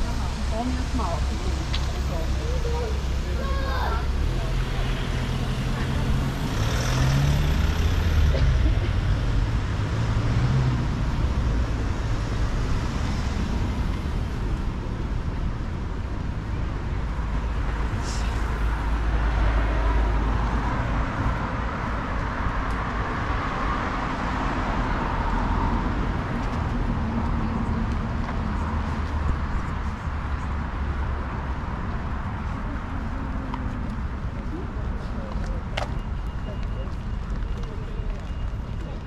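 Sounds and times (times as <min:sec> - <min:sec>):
traffic passing on street: 0:00.0 - 0:39.0
vehicle engine droning: 0:00.0 - 0:39.0.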